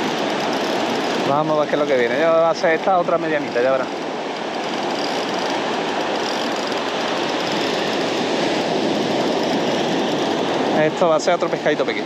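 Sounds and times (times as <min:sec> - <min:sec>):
fishing reel whirring: 0:00.0 - 0:10.8.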